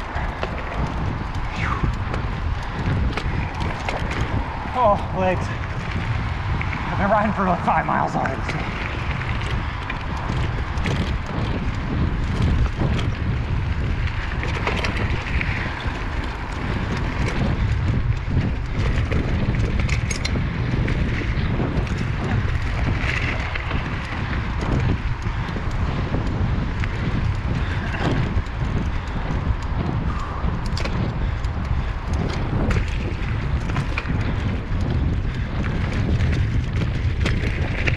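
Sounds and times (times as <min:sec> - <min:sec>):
bike clicks and rattles: 0:00.0 - 0:37.9
bike tyres on dirt: 0:00.0 - 0:37.9
wind rush on microphone: 0:00.0 - 0:37.9.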